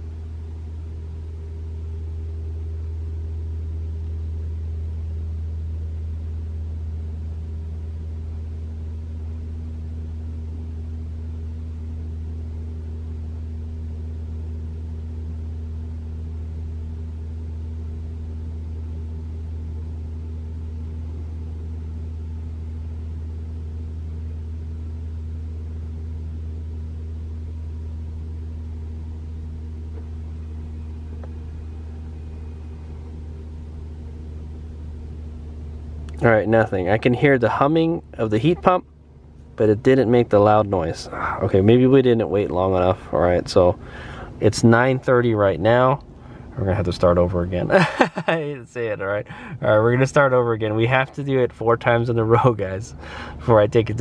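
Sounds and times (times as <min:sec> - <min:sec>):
car heat pump humming: 0:00.0 - 0:54.0.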